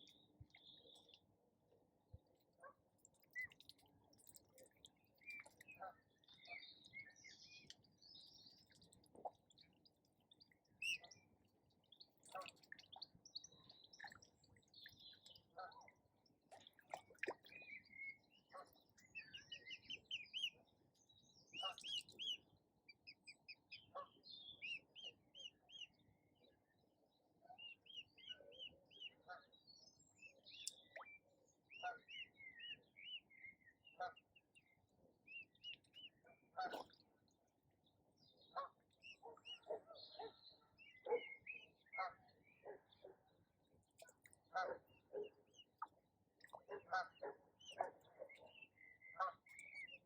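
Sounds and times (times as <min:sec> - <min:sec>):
faint songbirds chirping: 0:00.0 - 0:50.0.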